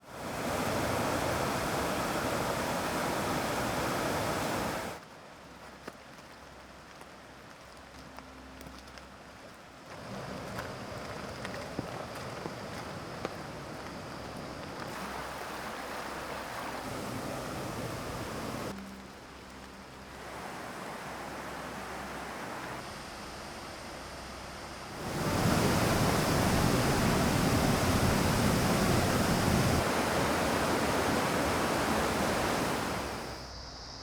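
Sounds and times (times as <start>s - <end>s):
rushing stream water: 0.0s - 6.6s, 8.8s - 22.9s, 24.8s - 33.5s.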